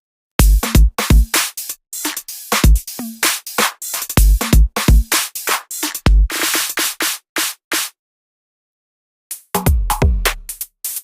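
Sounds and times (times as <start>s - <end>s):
electronic drum machine beat: 0.4s - 7.9s, 9.3s - 11.0s.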